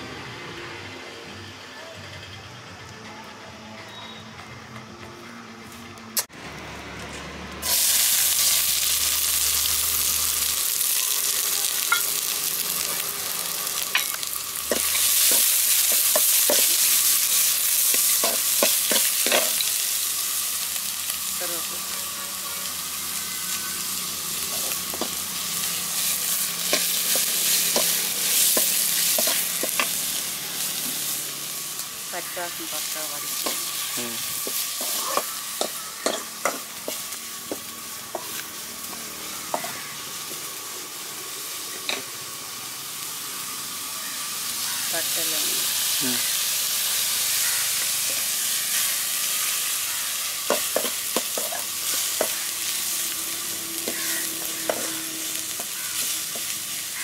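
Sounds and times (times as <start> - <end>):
onions sizzling in hot oil: 7.6 - 57.0.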